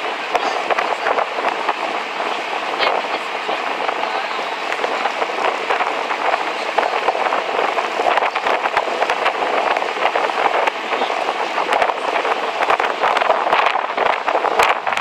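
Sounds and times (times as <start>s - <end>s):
small boat water and motor: 0.0s - 15.0s.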